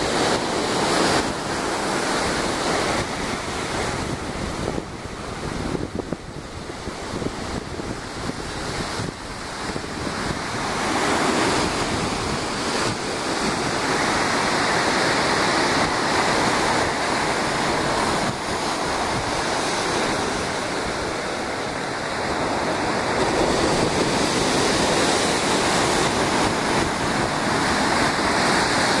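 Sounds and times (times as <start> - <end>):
ocean surf breaking on rocks: 0.0 - 29.0
wind on microphone: 0.0 - 29.0.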